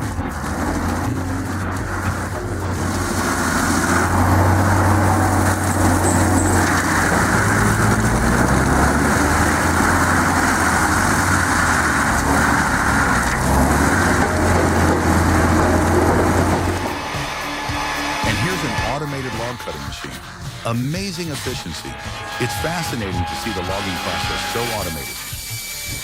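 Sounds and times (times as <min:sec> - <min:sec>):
heavy engine running under load: 0:00.0 - 0:26.0.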